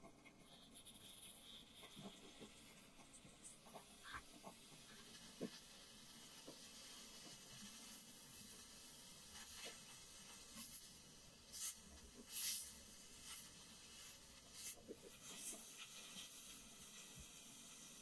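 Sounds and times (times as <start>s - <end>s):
soft steady hiss: 0.0s - 18.0s.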